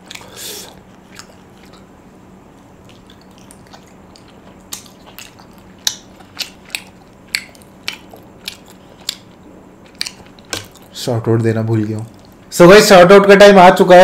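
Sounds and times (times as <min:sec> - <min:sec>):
crunchy food chewing: 0:00.0 - 0:11.0, 0:11.7 - 0:12.5.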